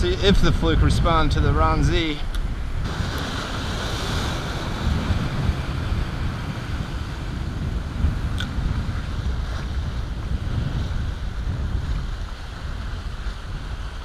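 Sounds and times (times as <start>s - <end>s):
wind buffeting microphone: 0.0s - 14.0s
waves splashing against rocks: 2.7s - 14.0s.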